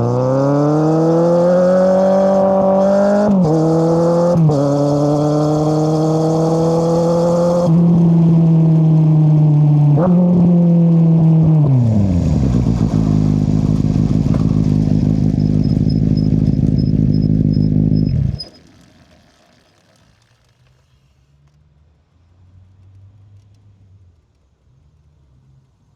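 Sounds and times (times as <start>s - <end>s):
motorcycle engine revving and idling: 0.0s - 21.6s.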